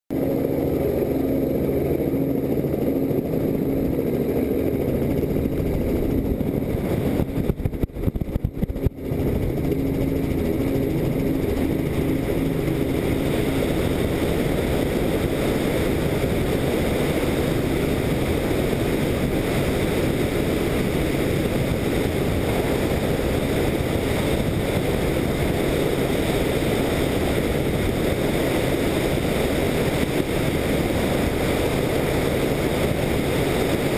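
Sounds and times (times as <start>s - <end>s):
helicopter rotors and motor: 0.1s - 33.9s
wind rushing over microphone: 0.1s - 33.9s.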